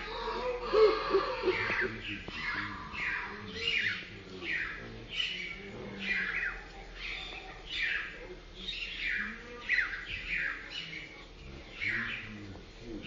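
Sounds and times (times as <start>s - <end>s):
birds chirping falling calls: 0.0s - 13.0s.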